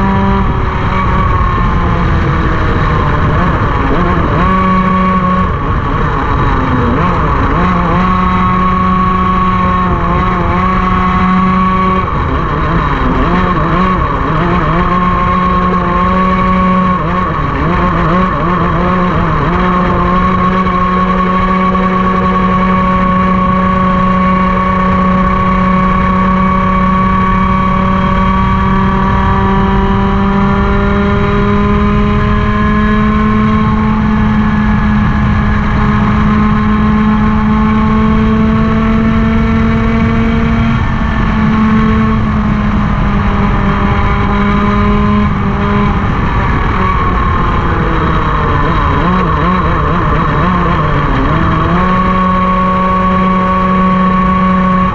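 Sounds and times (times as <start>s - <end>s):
kart engine at high revs: 0.0s - 54.9s
other kart engines: 0.0s - 54.9s.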